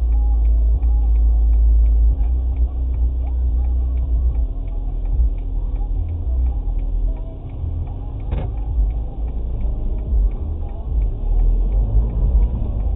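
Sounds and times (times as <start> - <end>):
car engine idling: 0.0 - 12.9
faint ticking: 0.0 - 12.9.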